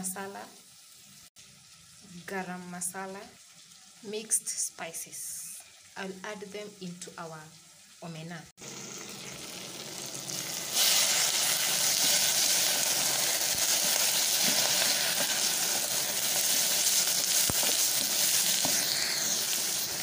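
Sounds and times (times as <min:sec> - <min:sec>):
fish and tomatoes sizzling: 0:00.0 - 0:20.0.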